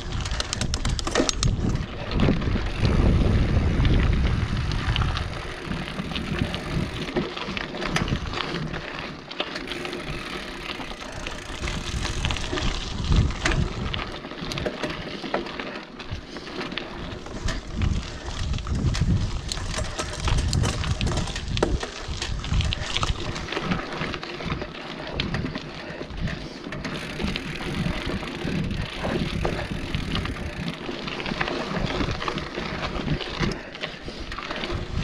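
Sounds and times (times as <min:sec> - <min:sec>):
bike rattling over bumps: 0:00.0 - 0:35.0
bike tyres rolling over dirt: 0:00.0 - 0:35.0.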